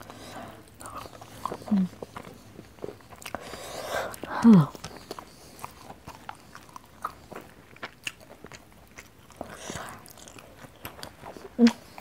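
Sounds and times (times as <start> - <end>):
wet chewing mouth clicks: 0.7 - 12.0.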